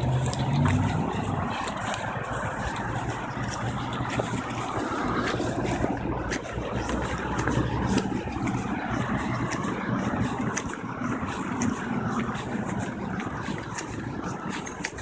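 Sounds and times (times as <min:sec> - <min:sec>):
car engine humming: 0:00.0 - 0:15.0
road noise: 0:00.0 - 0:15.0.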